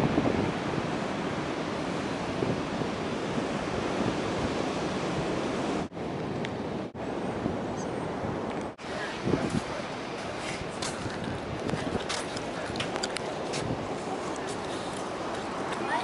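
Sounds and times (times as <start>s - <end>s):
ocean surf rushing: 0.0s - 16.0s
wind on microphone: 0.0s - 16.0s.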